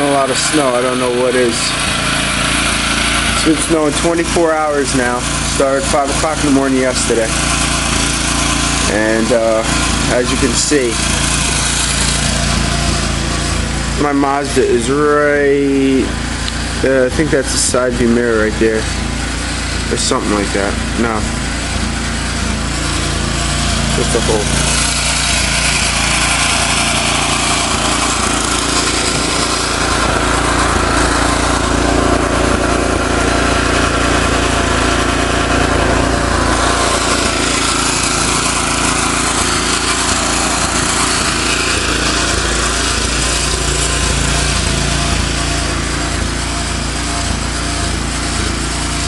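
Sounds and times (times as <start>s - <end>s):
small engine running: 0.0s - 49.0s.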